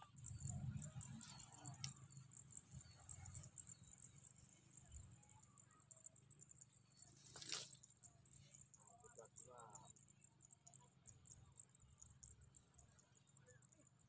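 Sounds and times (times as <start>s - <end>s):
insects chirring: 0.1s - 13.8s.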